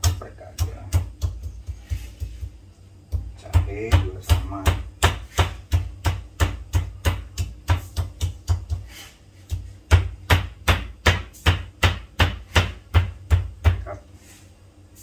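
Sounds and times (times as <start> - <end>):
stone pestle pounding in mortar: 0.0 - 2.5, 3.1 - 8.9, 9.5 - 13.9.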